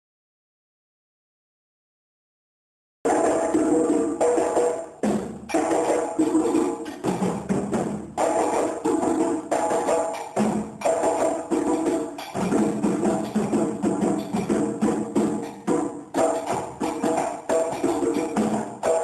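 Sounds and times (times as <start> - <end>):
hand drums fast rhythm: 3.1 - 19.0.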